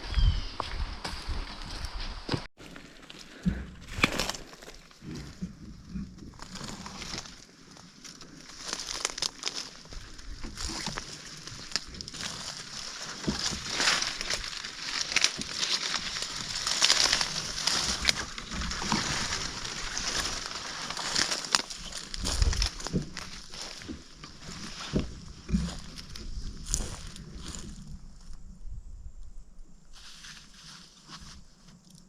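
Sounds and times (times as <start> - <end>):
dry brush and leaves crunching: 0.6 - 5.4, 6.2 - 28.3, 30.0 - 32.0.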